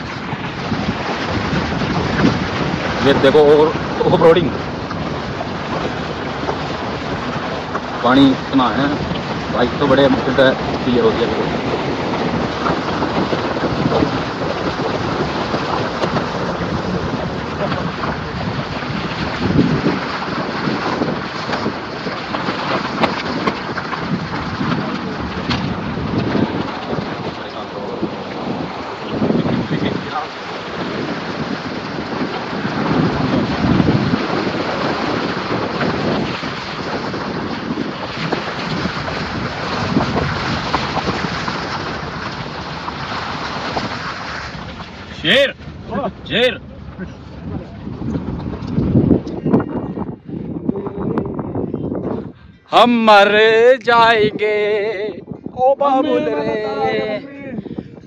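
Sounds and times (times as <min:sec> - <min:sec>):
car rolling on stony track: 0:00.0 - 0:52.1
road noise on gravel: 0:00.0 - 0:54.1
wind buffeting microphone: 0:00.0 - 0:58.0.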